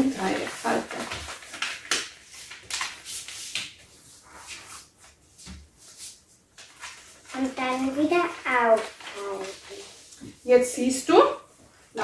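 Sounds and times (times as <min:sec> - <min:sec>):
paper rustling and creasing: 0:00.0 - 0:10.5
paper brushing on table: 0:00.1 - 0:10.8.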